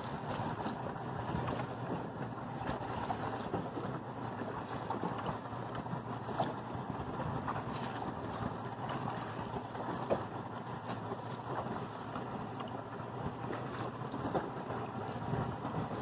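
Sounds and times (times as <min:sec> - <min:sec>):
water slapping boat hull: 0:00.0 - 0:16.0
wind buffeting microphone: 0:00.0 - 0:16.0.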